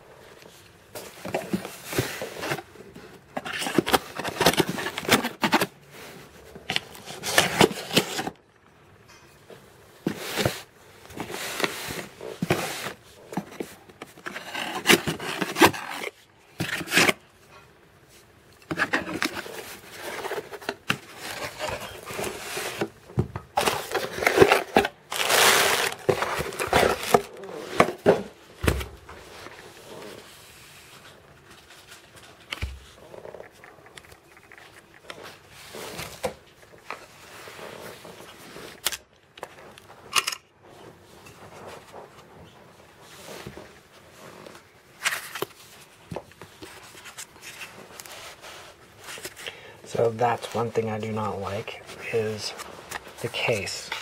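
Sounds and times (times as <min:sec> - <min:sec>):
packaging scraping and rustling: 0:00.5 - 0:08.4, 0:10.1 - 0:54.0.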